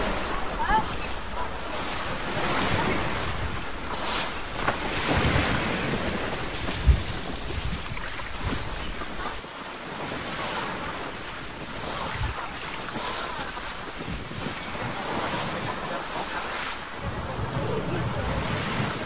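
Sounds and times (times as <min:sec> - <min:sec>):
water rushing along boat hull: 0:00.0 - 0:19.0
wind buffeting microphone: 0:00.0 - 0:19.0.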